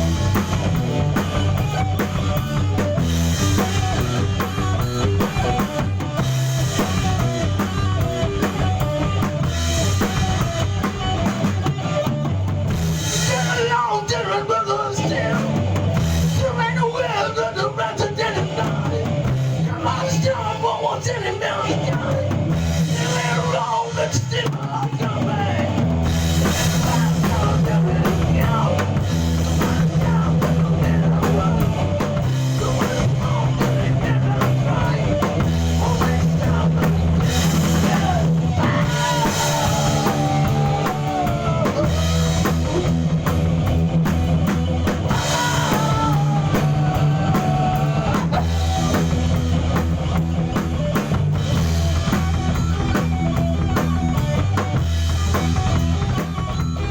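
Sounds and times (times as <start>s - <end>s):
bending electric guitar lead: 0.0s - 56.9s
rock band playing live: 0.0s - 56.9s.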